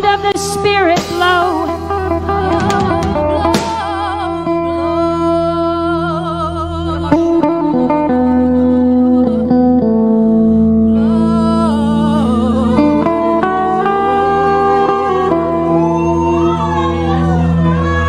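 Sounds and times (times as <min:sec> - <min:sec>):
person singing with vibrato: 0:00.0 - 0:16.4
slow worship music with guitar: 0:00.0 - 0:18.0.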